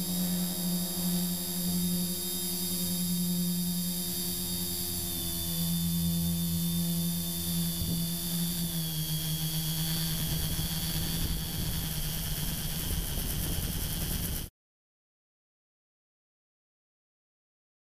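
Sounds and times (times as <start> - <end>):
drone motors and propellers: 0.0 - 14.5.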